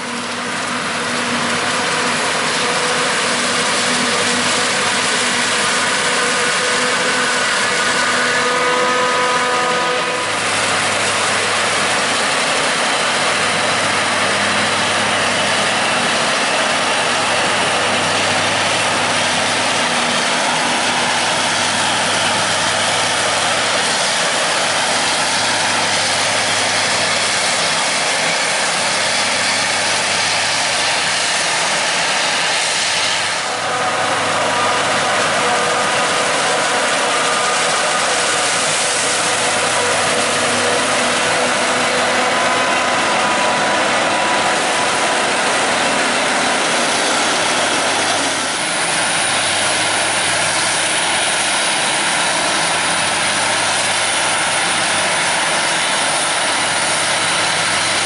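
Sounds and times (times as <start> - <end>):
forage harvester running: 0.0 - 58.0
machine whine: 0.0 - 58.0.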